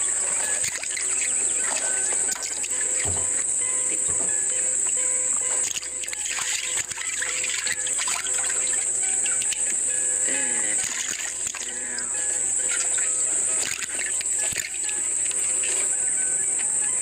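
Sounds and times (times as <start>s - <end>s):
background music: 0.0s - 17.0s
insects droning high-pitched: 0.0s - 17.0s
water splashing and dribbling: 0.0s - 17.0s.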